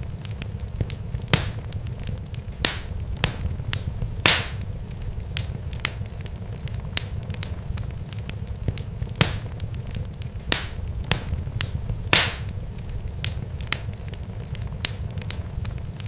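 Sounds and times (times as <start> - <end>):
sharp crackles and pops: 0.0 - 16.0
steady low rumble: 0.0 - 16.0.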